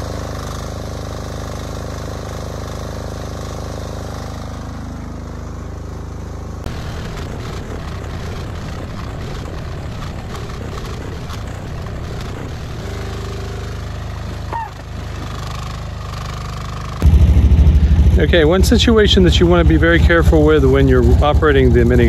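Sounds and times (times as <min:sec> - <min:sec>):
small excavator engine running: 0:00.0 - 0:22.0.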